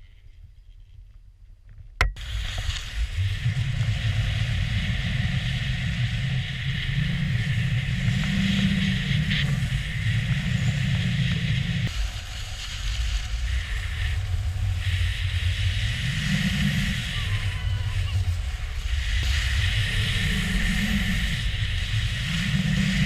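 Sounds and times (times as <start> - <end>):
wind on microphone: 1.7 - 23.0
skis scraping over snow: 2.2 - 23.0.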